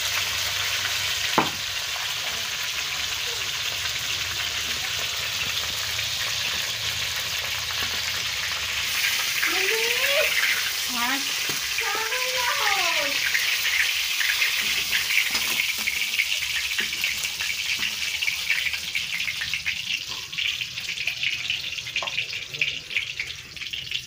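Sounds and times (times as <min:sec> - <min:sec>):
crackling and popping oil: 0:00.0 - 0:24.0
fish sizzling in hot oil: 0:00.0 - 0:24.0.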